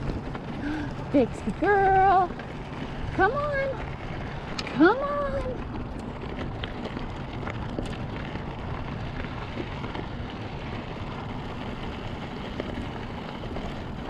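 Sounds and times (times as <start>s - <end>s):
bike tyres rolling on gravel: 0.0s - 14.0s
gravel ticks: 0.0s - 14.0s.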